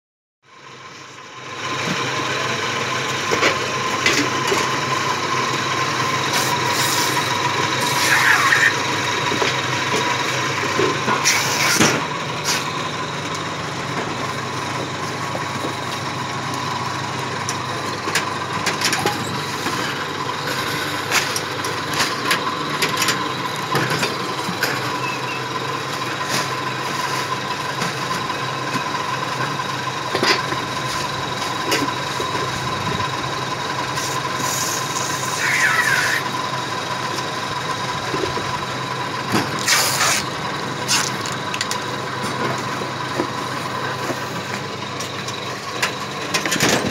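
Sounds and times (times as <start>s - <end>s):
machine whine and hum: 0.6s - 46.9s.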